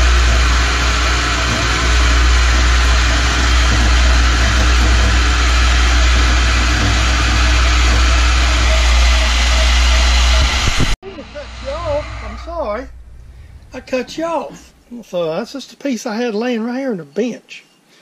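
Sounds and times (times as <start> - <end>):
band saw cutting: 0.0 - 15.4.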